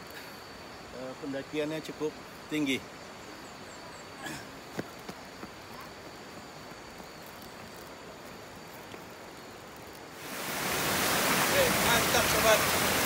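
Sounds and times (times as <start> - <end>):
faint outdoor hiss: 0.0 - 13.0
insects droning: 0.0 - 13.0.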